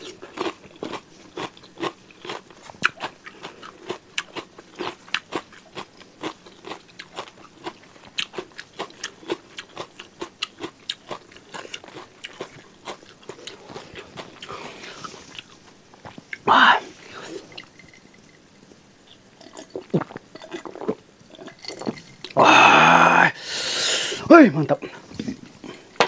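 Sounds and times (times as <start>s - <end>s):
person chewing crunchy food: 0.0s - 22.4s.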